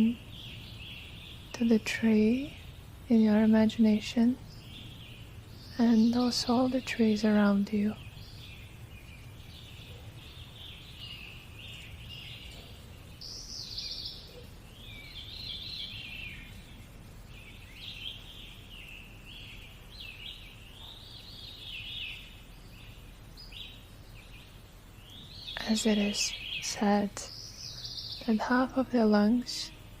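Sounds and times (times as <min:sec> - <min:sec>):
faint low hum: 0:00.0 - 0:30.0
small birds singing: 0:00.0 - 0:30.0.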